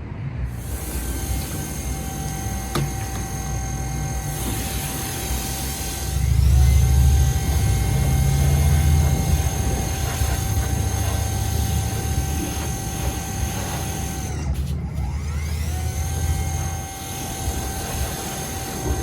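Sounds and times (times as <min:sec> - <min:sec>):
pressure washer high whine: 0:00.4 - 0:19.0
pressure washer motor drone: 0:00.5 - 0:19.0.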